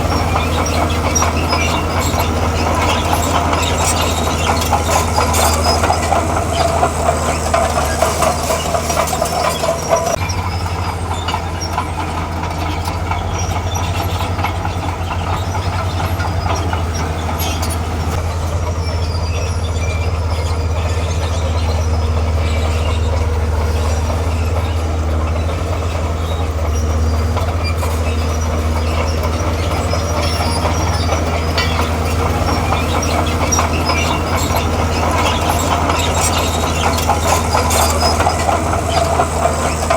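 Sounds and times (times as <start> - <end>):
high-pitched clatter: 0.0 - 18.2, 19.1 - 39.9
crawler tracks clanking and squeaking: 0.0 - 39.9
diesel engine running: 0.0 - 39.9.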